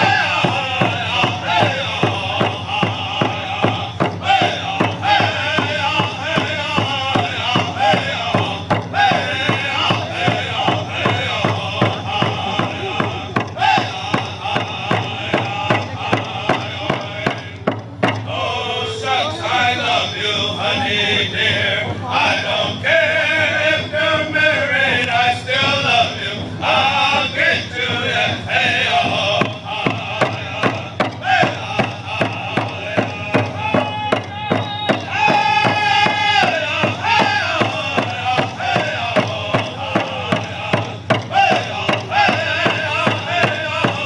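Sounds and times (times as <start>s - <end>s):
men singing together: 0.0s - 44.0s
steady drumbeat: 0.0s - 44.0s.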